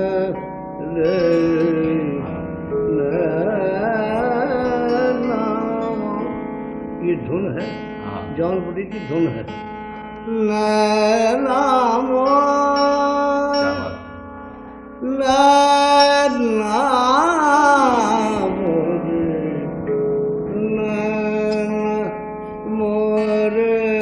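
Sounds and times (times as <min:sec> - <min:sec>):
man singing long ornamented notes: 0:00.0 - 0:06.4, 0:10.3 - 0:14.4, 0:15.0 - 0:24.0.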